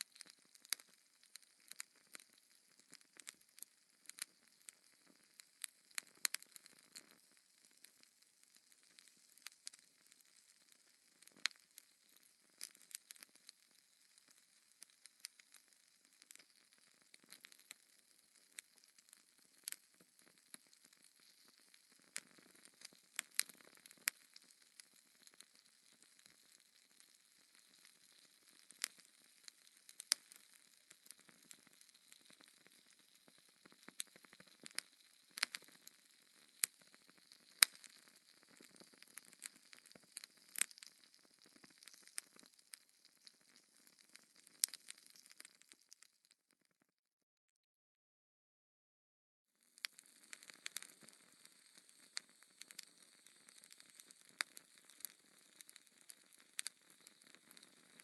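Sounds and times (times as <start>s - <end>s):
wood fire crackling: 0.0s - 46.4s, 49.8s - 58.0s
sharp pops and snaps: 0.0s - 46.8s, 49.8s - 58.0s.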